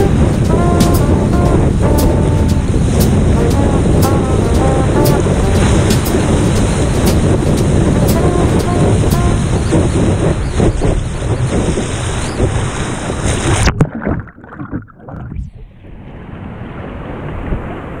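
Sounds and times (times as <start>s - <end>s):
surf and wind rushing: 0.0s - 13.7s, 15.4s - 18.0s
muffled underwater water wash: 0.0s - 18.0s.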